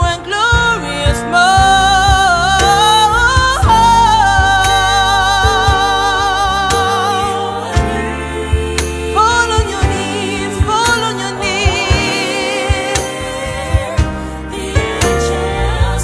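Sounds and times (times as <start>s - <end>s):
bass: 0.0s - 16.0s
keyboard: 0.0s - 16.0s.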